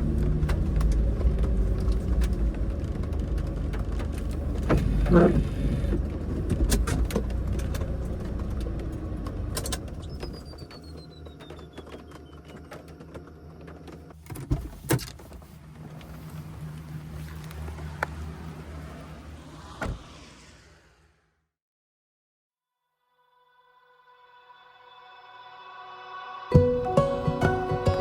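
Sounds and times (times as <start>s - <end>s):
car engine humming: 0.0s - 21.2s, 26.5s - 28.0s.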